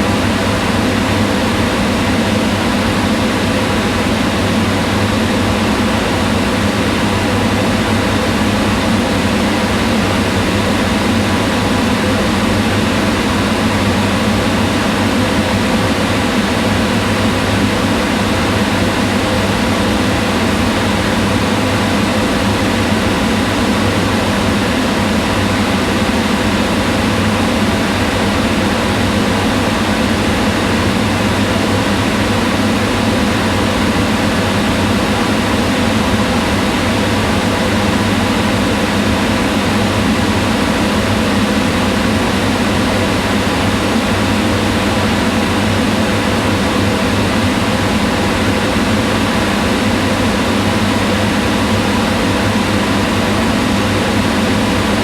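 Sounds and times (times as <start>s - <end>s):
range hood fan humming: 0.0s - 55.0s.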